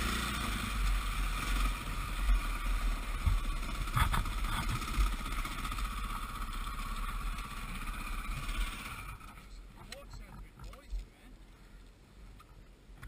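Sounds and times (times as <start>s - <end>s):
dirt bike engine running: 0.0s - 10.7s.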